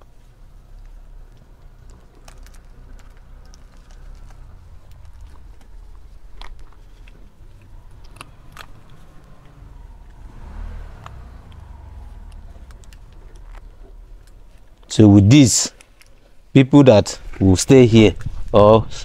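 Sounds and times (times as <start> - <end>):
faint low rumble: 0.0 - 19.0.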